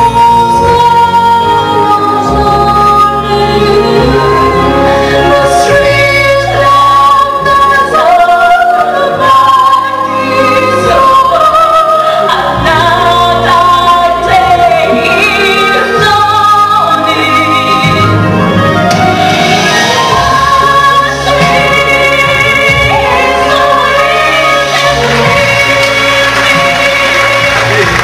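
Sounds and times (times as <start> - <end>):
stage musical accompaniment: 0.0 - 28.0
woman singing with vibrato: 0.0 - 28.0.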